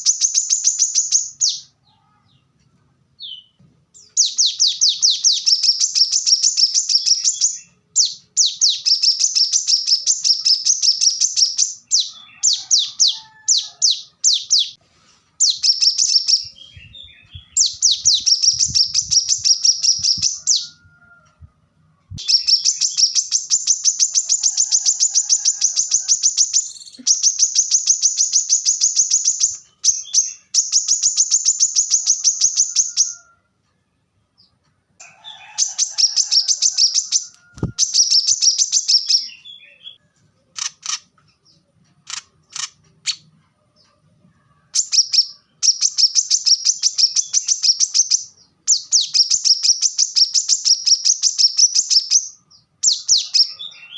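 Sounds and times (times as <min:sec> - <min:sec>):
bird singing high-pitched chirps: 0:00.0 - 0:01.8, 0:03.2 - 0:14.8, 0:15.4 - 0:20.8, 0:22.1 - 0:33.2, 0:35.3 - 0:40.0, 0:44.7 - 0:53.9.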